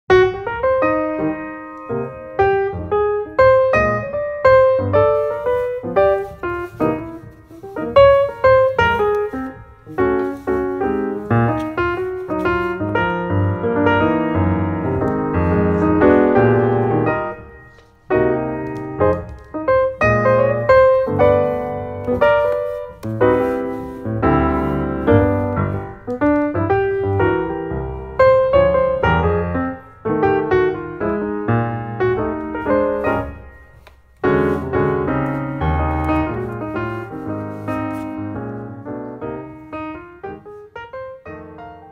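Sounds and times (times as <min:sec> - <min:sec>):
solo piano music: 0:00.1 - 0:41.9.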